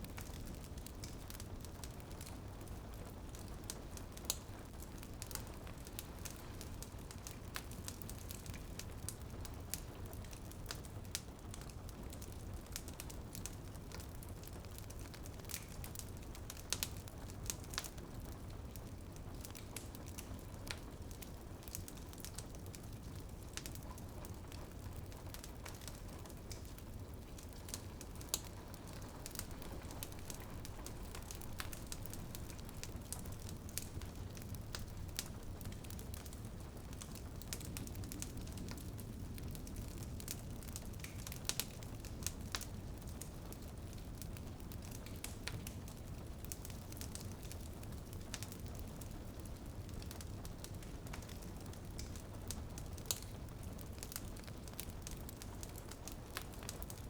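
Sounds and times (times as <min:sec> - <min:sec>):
rain pattering on window: 0:00.0 - 0:57.0
wood fire crackling: 0:00.0 - 0:57.0.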